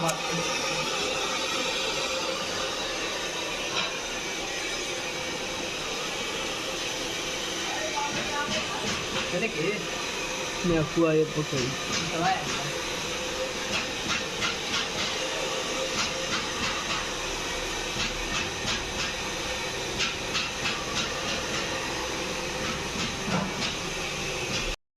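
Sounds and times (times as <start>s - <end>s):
hair dryer blowing: 0.0s - 24.8s.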